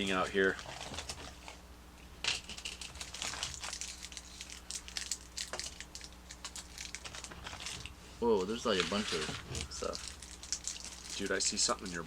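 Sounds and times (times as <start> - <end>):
plastic packaging crinkling: 2.3 - 12.0.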